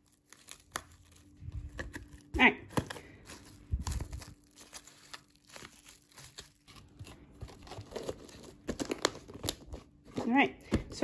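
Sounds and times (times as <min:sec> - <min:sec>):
plastic cling wrap crinkling: 0:00.0 - 0:11.0.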